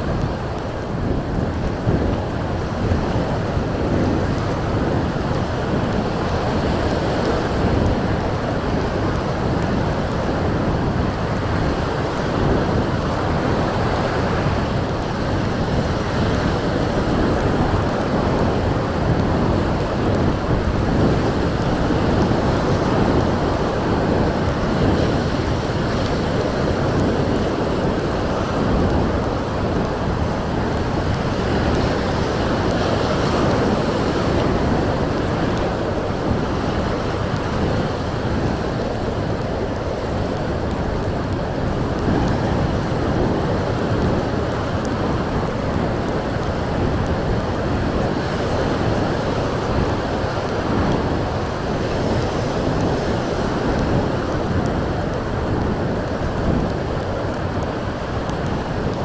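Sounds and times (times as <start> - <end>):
sea surf: 0.0 - 59.0
wind buffeting microphone: 0.0 - 59.0.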